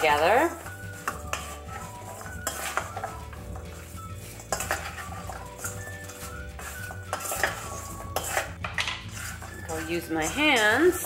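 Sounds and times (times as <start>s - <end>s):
spoon scraping metal bowl: 0.0s - 11.0s.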